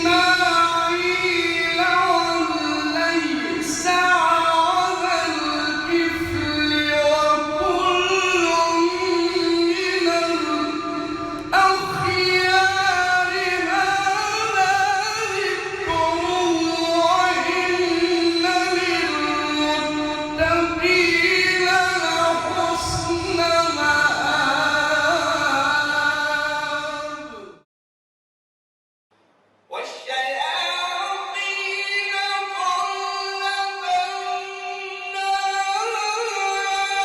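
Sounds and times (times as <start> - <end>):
man chanting melodic recitation: 0.0 - 27.6, 29.7 - 37.0.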